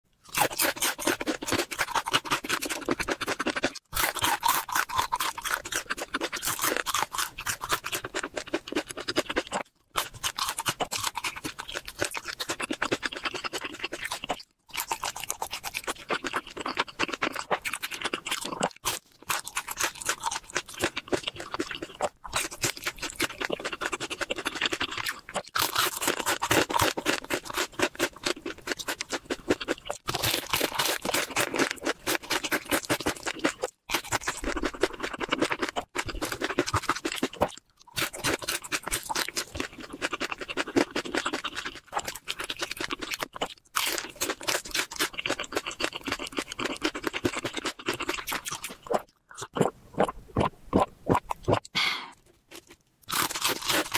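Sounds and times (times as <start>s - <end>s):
crunching fried chicken: 0.2s - 53.9s.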